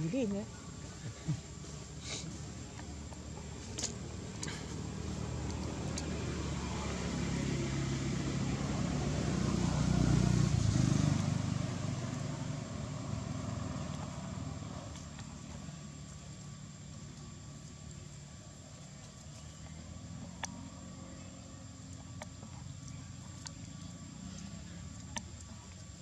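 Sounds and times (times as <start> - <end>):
vehicle engine passing by: 1.9 - 16.2, 19.3 - 26.0.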